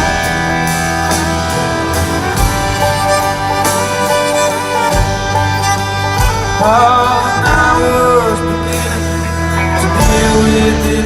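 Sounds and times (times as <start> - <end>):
fiddle: 0.0 - 11.0
guitars: 0.0 - 11.0
live country band: 0.0 - 11.0
steady drum beat: 0.0 - 11.0.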